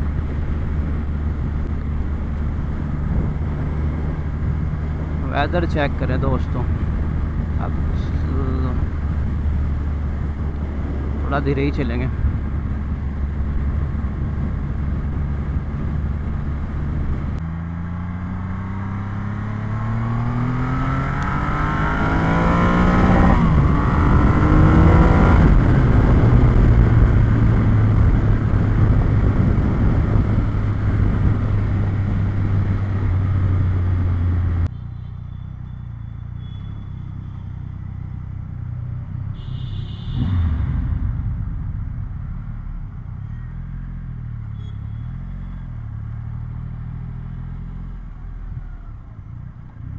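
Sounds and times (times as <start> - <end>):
motorcycle engine revving: 0.0 - 34.7, 37.3 - 47.9.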